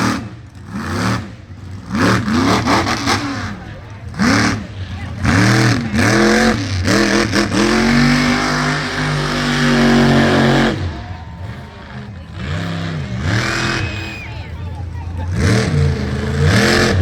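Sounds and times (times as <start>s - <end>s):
car engine revving hard: 0.0s - 14.3s, 14.9s - 17.0s.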